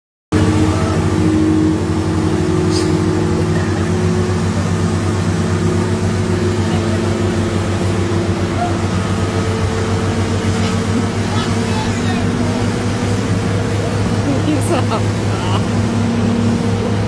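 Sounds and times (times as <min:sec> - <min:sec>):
excavator engine running: 0:00.3 - 0:17.0.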